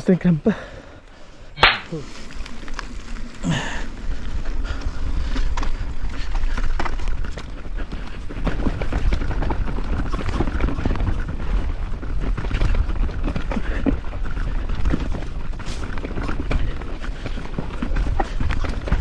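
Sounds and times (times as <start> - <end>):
mountain bike rattling: 1.9 - 19.0.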